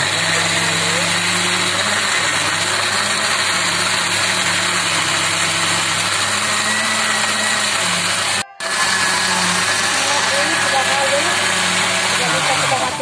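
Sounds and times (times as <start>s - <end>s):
blender motor grinding: 0.0s - 13.0s.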